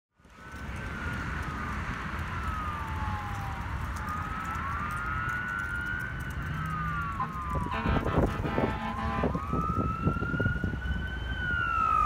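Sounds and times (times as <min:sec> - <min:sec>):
fire engine siren wailing: 0:00.2 - 0:12.0.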